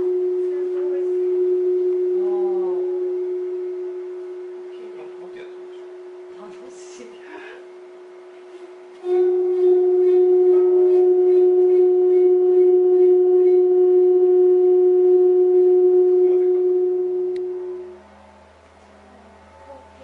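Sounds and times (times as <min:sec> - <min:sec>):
metal plate resonating tone: 0:00.0 - 0:20.0.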